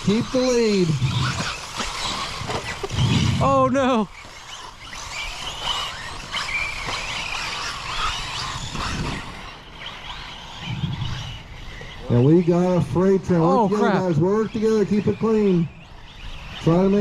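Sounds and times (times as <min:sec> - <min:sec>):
rc buggy motors whining: 0:00.0 - 0:17.0.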